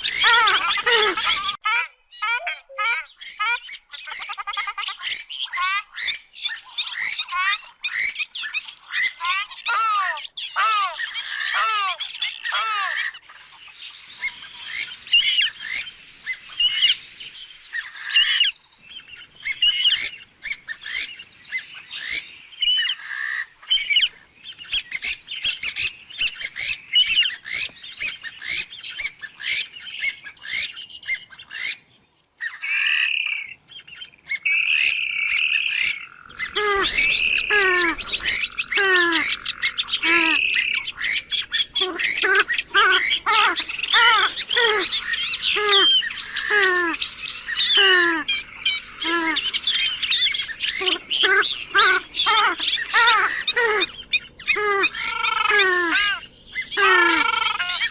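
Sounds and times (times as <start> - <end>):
swamphen calls: 0.0 - 31.8, 34.3 - 57.9
lower dense run of calls: 0.0 - 57.9.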